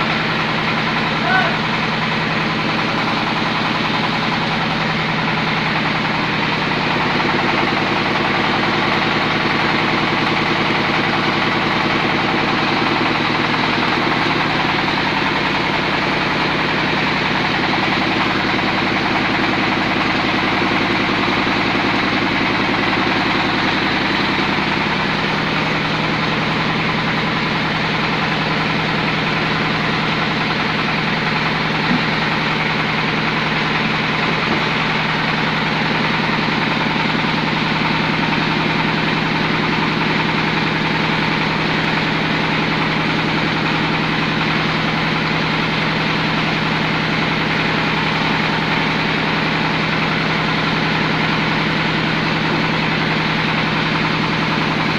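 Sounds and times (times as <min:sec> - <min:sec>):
meat grinding machine humming: 0:00.0 - 0:54.9.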